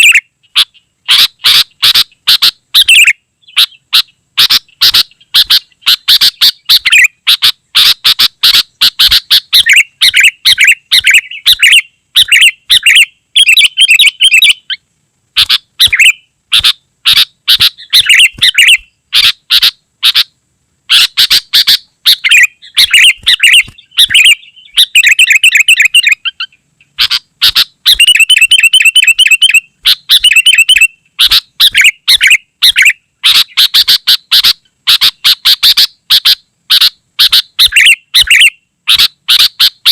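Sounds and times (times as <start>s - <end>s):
bird singing chirps and trills: 0.0s - 14.8s, 15.4s - 20.3s, 20.9s - 39.9s.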